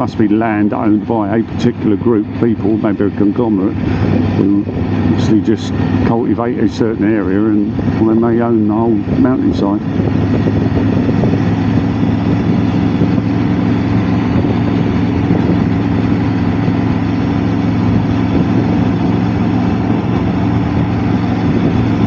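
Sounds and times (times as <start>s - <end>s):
motorcycle engine running: 0.0s - 22.0s
road and wind noise: 0.0s - 22.0s.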